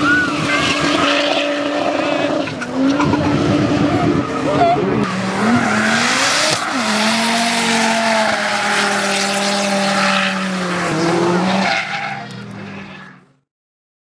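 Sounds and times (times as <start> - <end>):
tyres squealing and skidding: 0.0 - 13.4.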